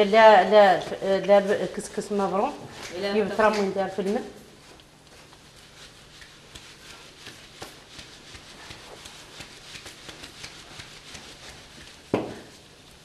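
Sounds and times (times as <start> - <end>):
sieve rustling hiss: 0.0 - 13.0.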